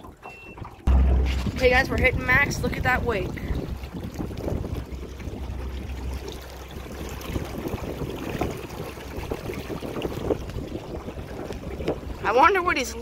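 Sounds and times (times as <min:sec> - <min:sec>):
water churning and splashing: 0:00.0 - 0:13.0
low motor rumble: 0:00.6 - 0:13.0.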